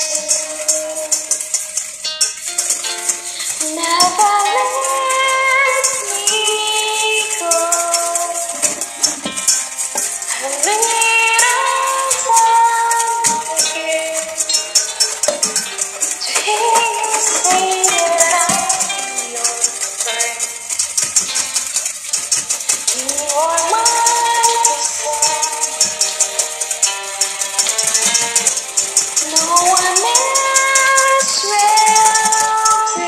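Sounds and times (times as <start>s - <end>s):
shaker rhythm: 0.0s - 33.0s.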